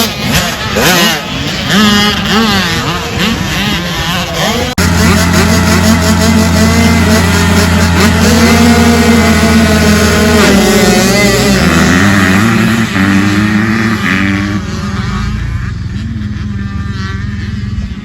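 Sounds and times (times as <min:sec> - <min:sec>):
dirt bike engine revving: 0:00.0 - 0:18.0
engine running steadily: 0:00.0 - 0:18.0.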